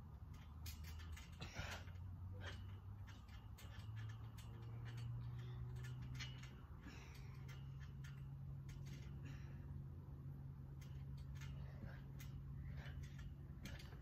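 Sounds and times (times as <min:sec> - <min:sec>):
low steady hum: 0:00.0 - 0:14.0
trampoline springs creaking: 0:00.0 - 0:14.0.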